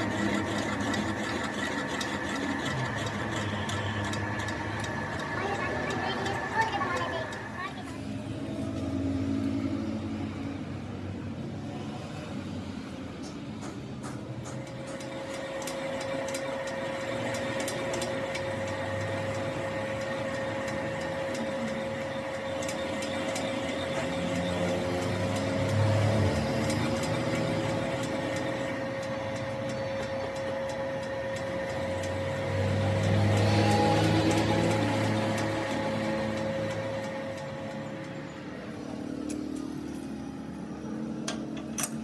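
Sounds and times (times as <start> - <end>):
lathe motor whine: 0.0 - 10.4, 14.6 - 41.7.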